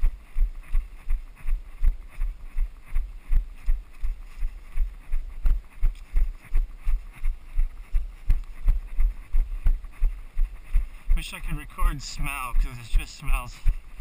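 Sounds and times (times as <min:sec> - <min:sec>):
running footfalls on dirt: 0:00.0 - 0:14.0.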